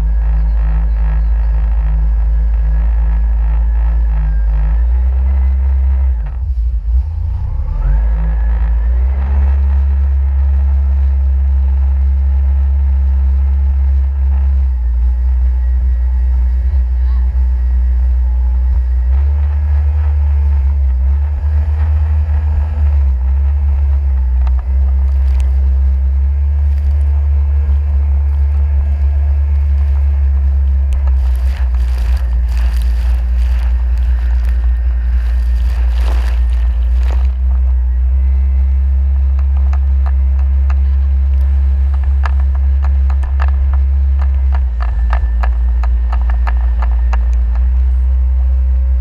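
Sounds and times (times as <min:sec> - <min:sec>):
jet ski engine rumble: 0:00.0 - 0:49.0.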